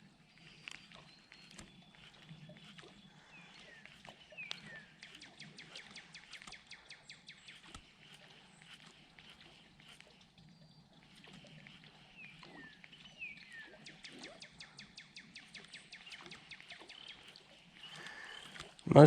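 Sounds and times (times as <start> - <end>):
animal clicking calls: 0.4 - 18.9.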